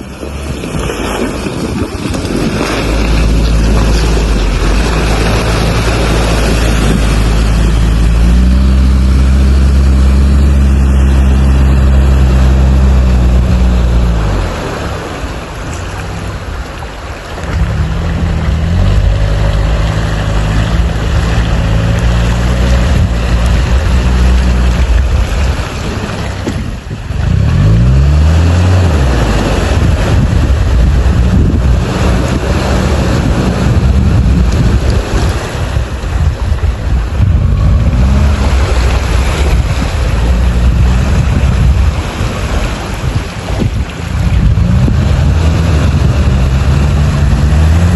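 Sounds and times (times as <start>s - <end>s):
steady rushing noise: 0.0s - 47.9s
vehicle engine under load: 0.0s - 47.9s
wind noise on microphone: 0.0s - 47.9s.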